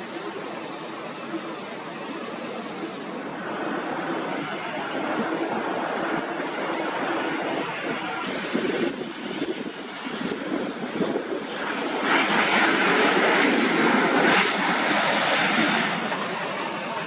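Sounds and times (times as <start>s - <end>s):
airliner engines passing: 0.0s - 17.0s
faint high engine whine: 0.0s - 17.0s.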